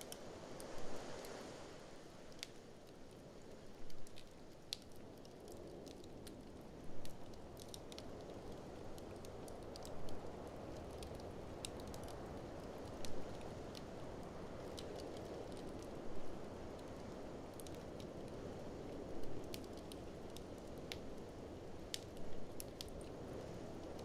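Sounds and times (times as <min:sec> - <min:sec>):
wood fire crackling and popping: 0:02.2 - 0:24.0.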